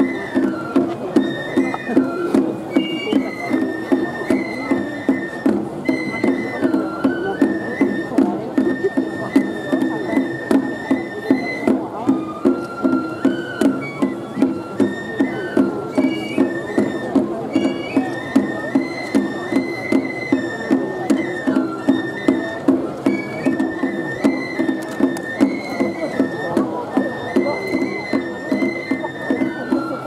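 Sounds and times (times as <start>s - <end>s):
bamboo flute melody: 0.0s - 30.0s.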